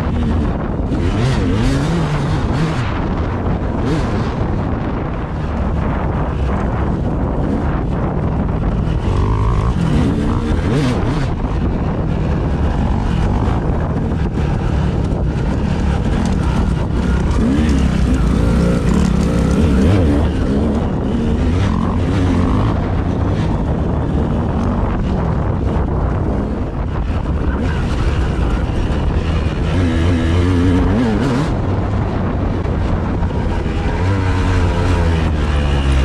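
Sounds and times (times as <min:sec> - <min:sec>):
wind buffeting microphone: 0:00.0 - 0:36.0
vehicle engine running: 0:02.5 - 0:36.0.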